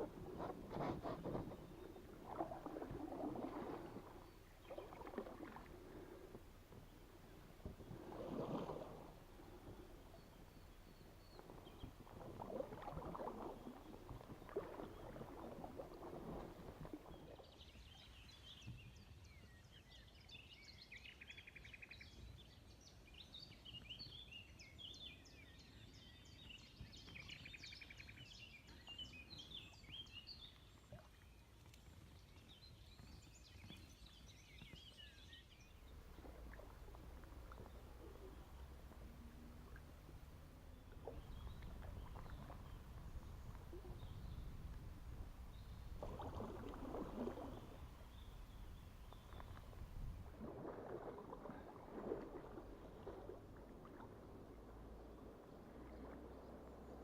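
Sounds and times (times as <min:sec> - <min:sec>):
water splashing and sloshing: 0:00.0 - 0:18.8, 0:28.3 - 0:57.0.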